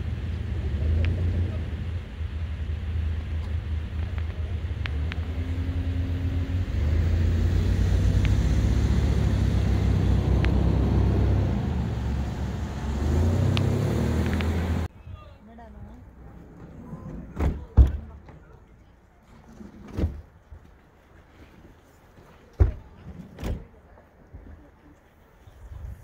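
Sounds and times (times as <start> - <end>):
vehicle rumbling in motion: 0.0 - 26.0.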